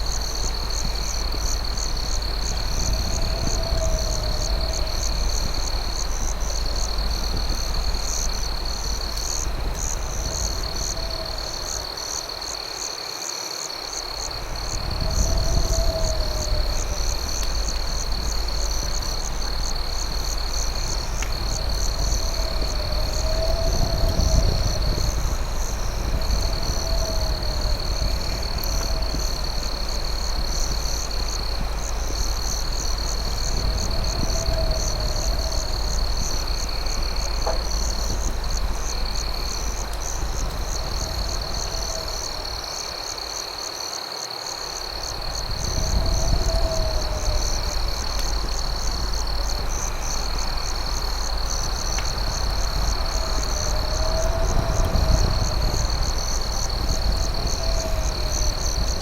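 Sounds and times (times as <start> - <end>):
low rumble: 0.0 - 12.0, 14.2 - 42.8, 45.0 - 59.0
campfire crackles: 0.0 - 44.0, 44.6 - 59.0
crickets trilling: 0.0 - 59.0.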